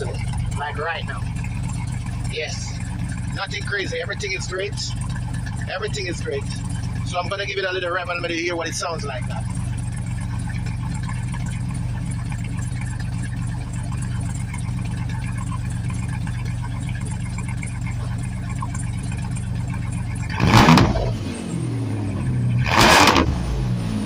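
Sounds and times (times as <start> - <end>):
van engine idling and revving: 0.0 - 24.0.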